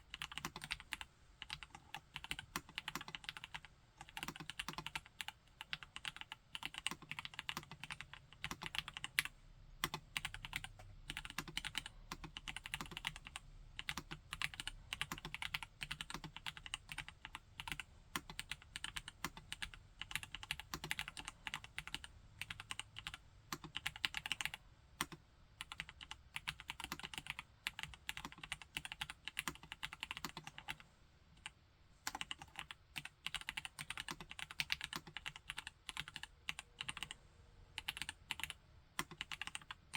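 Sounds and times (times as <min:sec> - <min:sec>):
mechanical keyboard typing: 0:00.1 - 0:30.8, 0:32.1 - 0:37.2, 0:37.8 - 0:39.9.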